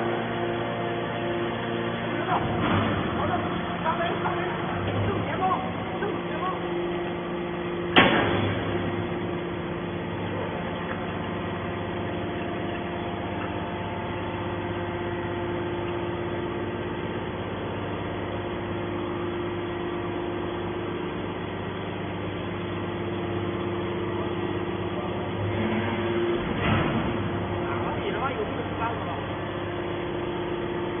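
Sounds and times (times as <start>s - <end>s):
baler machine hum: 0.0s - 31.0s.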